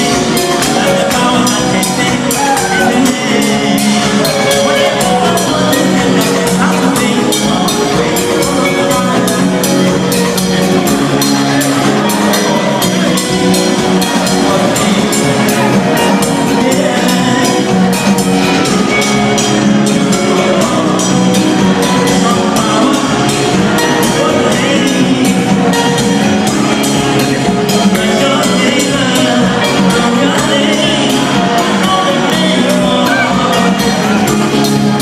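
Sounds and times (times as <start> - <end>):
drum kit beat: 0.0 - 35.0
gospel band playing: 0.0 - 35.0
keyboard: 0.0 - 35.0.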